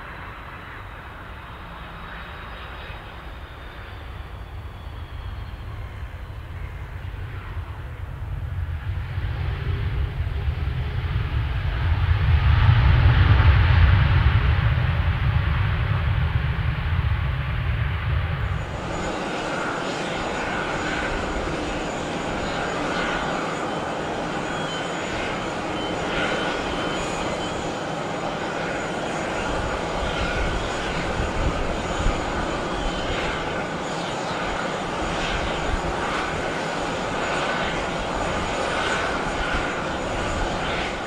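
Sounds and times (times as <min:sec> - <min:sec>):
jet engine rush: 0:00.0 - 0:41.0.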